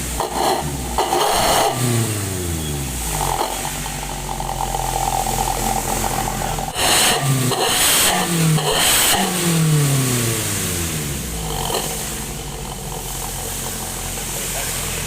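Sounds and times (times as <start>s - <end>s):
car engine revving: 0.0s - 15.0s
engine idling: 0.0s - 15.0s.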